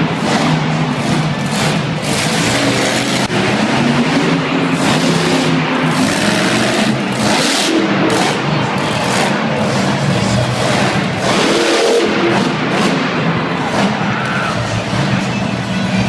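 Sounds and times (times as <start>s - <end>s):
monster truck engines revving: 0.0s - 16.0s.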